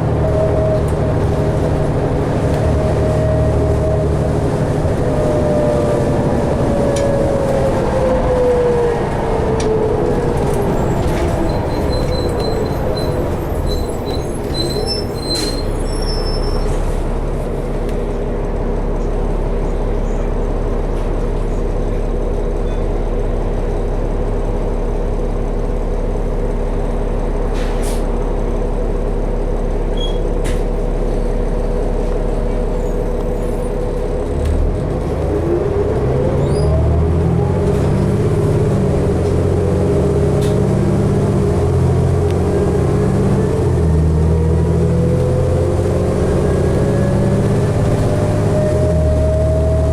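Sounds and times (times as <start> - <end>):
rising engine whine: 0.0 - 21.6, 31.4 - 49.9
bus engine humming: 0.0 - 49.9.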